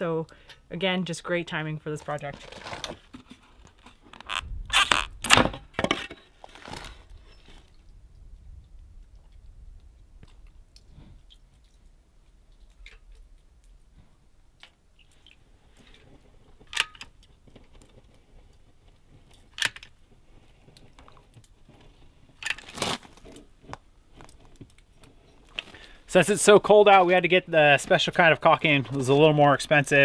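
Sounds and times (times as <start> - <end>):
faint handling sounds: 5.9 - 30.0.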